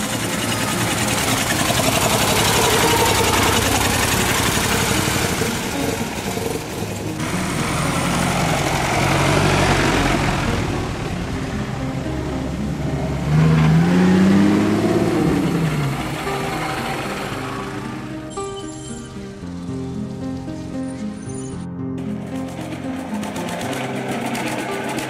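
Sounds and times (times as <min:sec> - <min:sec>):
old car engines running: 0:00.0 - 0:21.4, 0:22.0 - 0:25.0.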